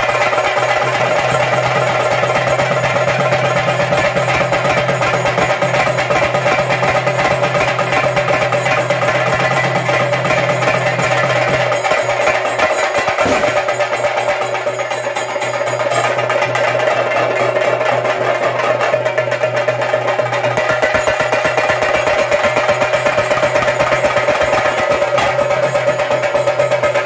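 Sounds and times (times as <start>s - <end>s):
chenda drums beaten with sticks: 0.0s - 27.0s.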